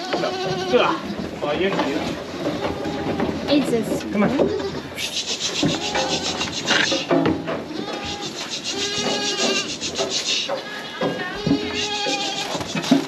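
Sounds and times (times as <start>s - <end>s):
young goats bleating: 0.0s - 1.2s, 2.3s - 13.0s.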